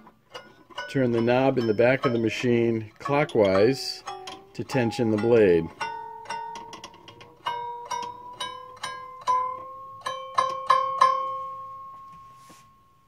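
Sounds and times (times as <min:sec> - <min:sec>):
saw blade plucked ringing tone: 0:00.4 - 0:12.8.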